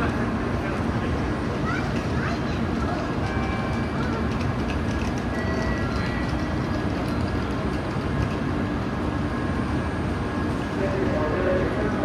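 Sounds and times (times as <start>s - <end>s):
train running past: 0.0s - 12.0s.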